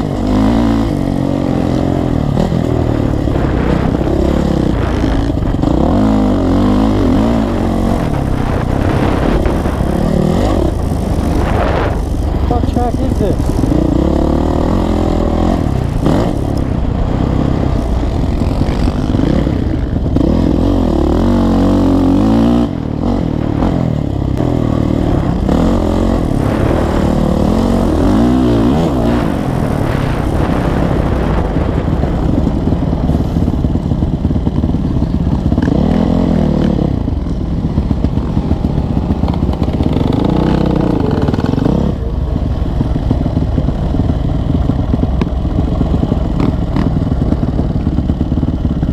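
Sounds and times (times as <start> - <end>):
motocross bike engine revving: 0.0 - 48.9
steady low rumble: 0.0 - 48.9.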